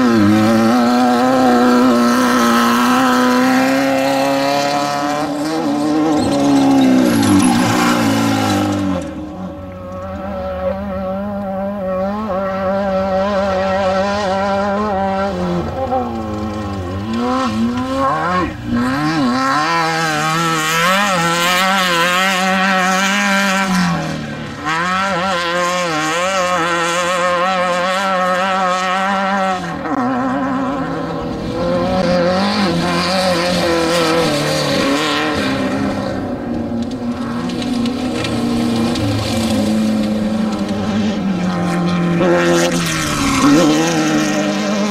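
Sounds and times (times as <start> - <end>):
race vehicle engine revving: 0.0 - 44.9.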